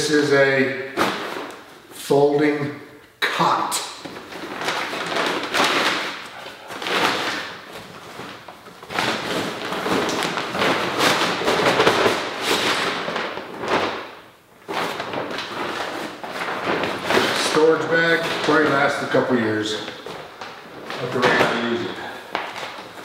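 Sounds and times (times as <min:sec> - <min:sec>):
fabric bag rustling: 0:04.0 - 0:23.0.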